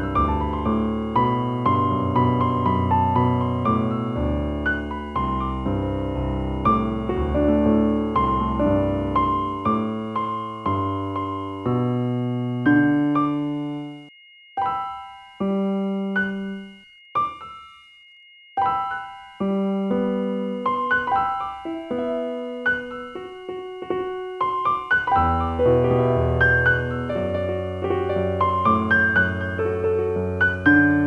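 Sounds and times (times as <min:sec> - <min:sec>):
slow solo piano: 0:00.0 - 0:17.6, 0:18.6 - 0:31.0
faint steady high tones: 0:00.0 - 0:31.0.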